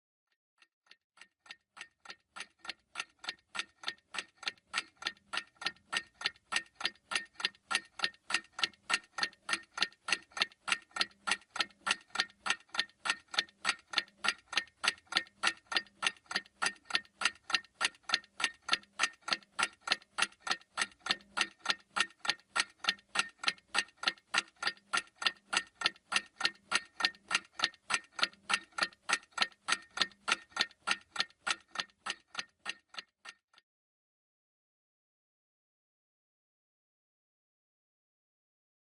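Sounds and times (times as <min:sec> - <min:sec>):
clock ticking: 0:00.6 - 0:33.5.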